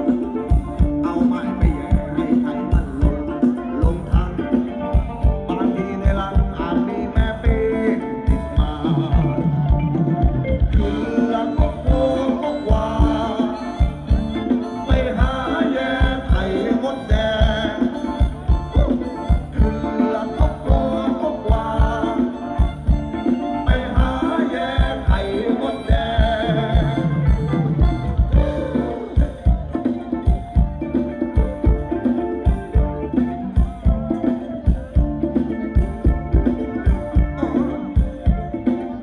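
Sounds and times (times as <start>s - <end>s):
live band dance song over pa: 0.0s - 39.0s
steady drum beat: 0.0s - 39.0s.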